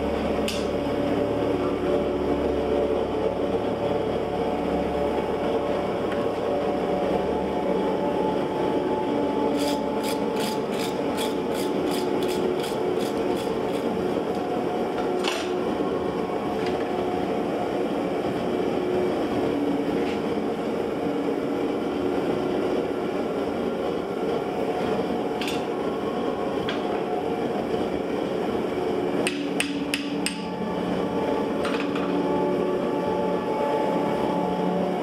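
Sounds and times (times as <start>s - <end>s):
steady shop hum: 0.0s - 35.0s.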